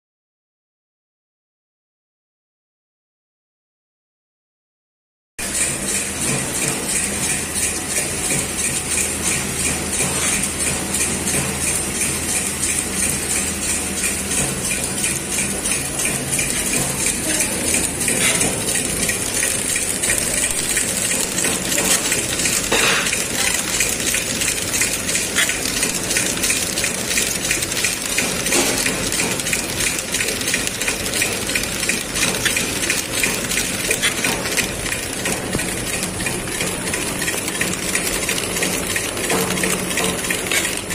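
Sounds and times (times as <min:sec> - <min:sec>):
packing machine clatter: 0:05.4 - 0:40.9.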